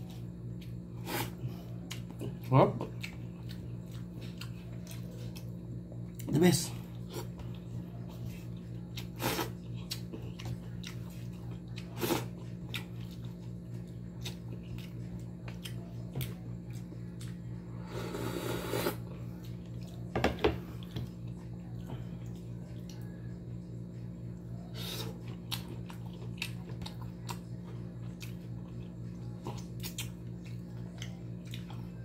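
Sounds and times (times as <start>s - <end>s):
person chewing and smacking: 0.0s - 17.5s, 19.3s - 20.1s, 23.9s - 32.0s
steady low hum: 0.0s - 32.0s.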